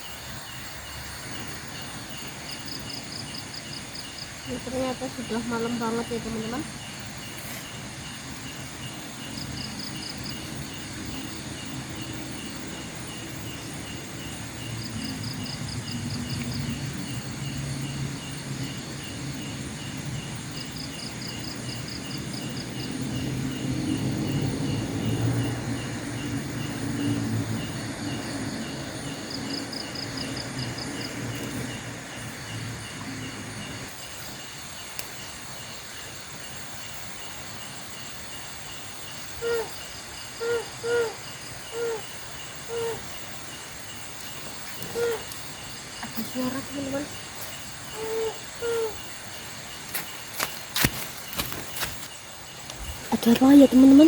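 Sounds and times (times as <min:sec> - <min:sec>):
fast insect trills: 0:00.0 - 0:54.0
night insects chirping: 0:00.0 - 0:54.0.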